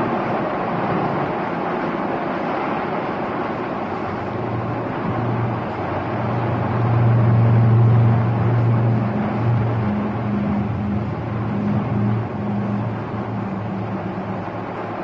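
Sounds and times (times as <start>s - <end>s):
boat engine running: 0.0s - 15.0s
low steady drone: 0.0s - 15.0s
rush of wind and water: 0.0s - 15.0s.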